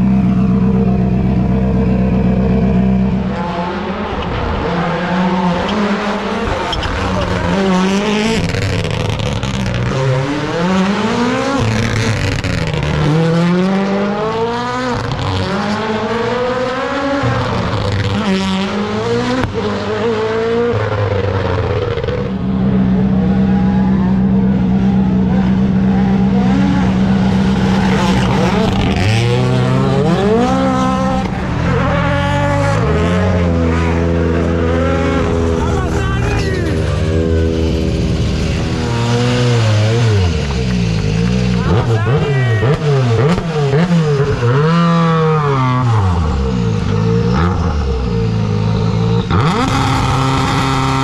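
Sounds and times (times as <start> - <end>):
rally car engine driven hard: 0.0 - 51.0.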